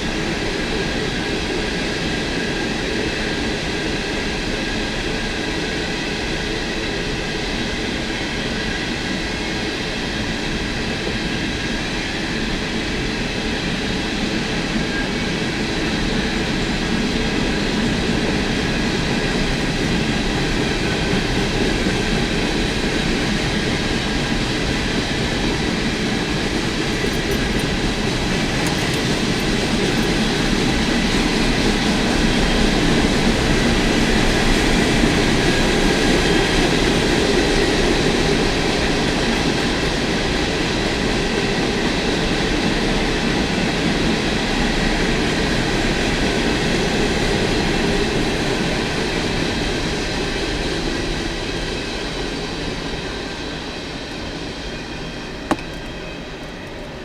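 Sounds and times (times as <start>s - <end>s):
freight train wheels rumbling on rail: 0.0s - 57.0s.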